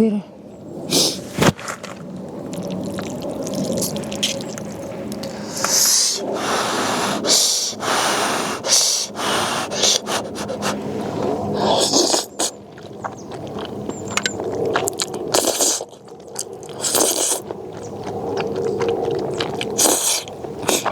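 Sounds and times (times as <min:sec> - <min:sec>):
noodles being slurped: 0:00.9 - 0:20.9.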